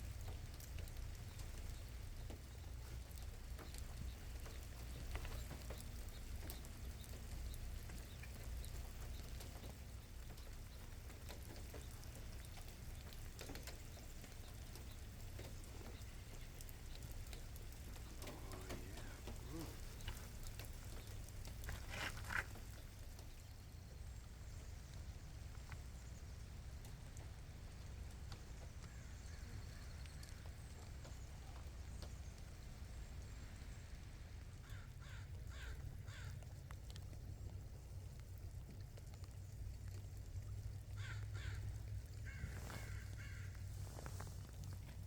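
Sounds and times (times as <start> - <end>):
light rain pattering: 0.0 - 45.0.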